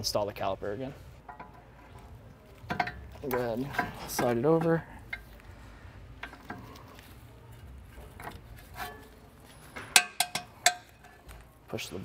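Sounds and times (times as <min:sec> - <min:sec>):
metallic clicks and scrapes: 0:01.2 - 0:11.6.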